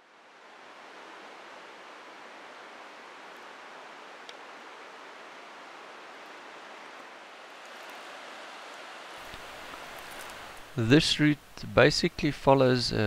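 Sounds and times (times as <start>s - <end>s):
stream rushing: 0.0s - 11.6s.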